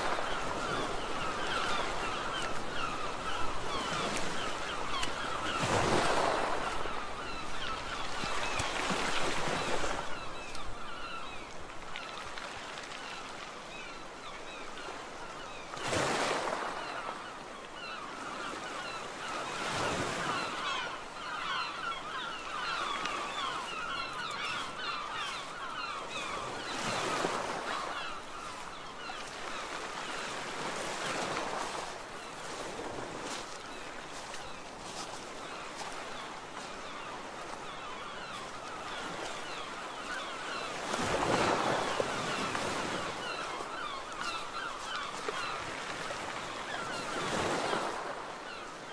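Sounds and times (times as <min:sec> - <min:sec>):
flock of birds calling: 0:00.0 - 0:48.9
sea waves breaking on beach: 0:00.0 - 0:48.9.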